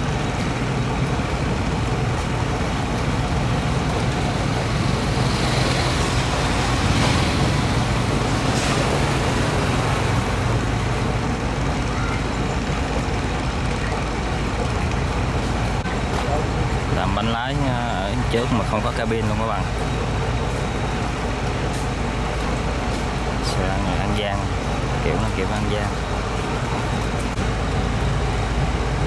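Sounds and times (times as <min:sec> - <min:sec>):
boat engine humming: 0:00.0 - 0:29.0
water wash: 0:00.0 - 0:29.0.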